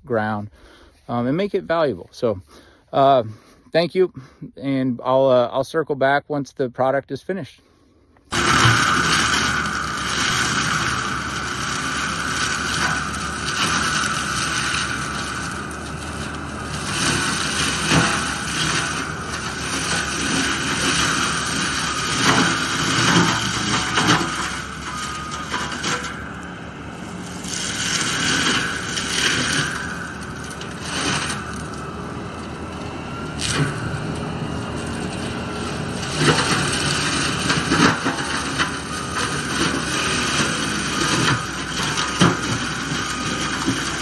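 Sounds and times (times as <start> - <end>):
mulching machine grinding wood: 8.3 - 44.0.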